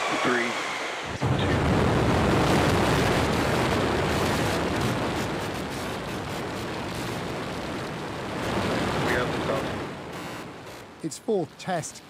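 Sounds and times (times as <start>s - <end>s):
rocket exhaust rumble: 1.1s - 11.0s
rocket crackle: 1.1s - 12.0s.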